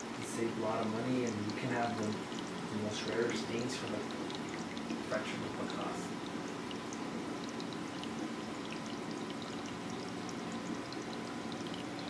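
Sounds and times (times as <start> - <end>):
low pump hum: 0.0 - 12.0
water drips and bubbles: 0.0 - 12.0
water trickling and rushing: 0.0 - 12.0.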